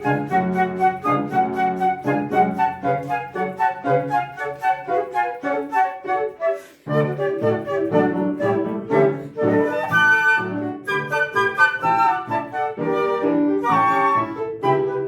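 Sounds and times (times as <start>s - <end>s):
flute playing quick notes: 0.0s - 15.0s
lower musical accompaniment: 0.0s - 15.0s.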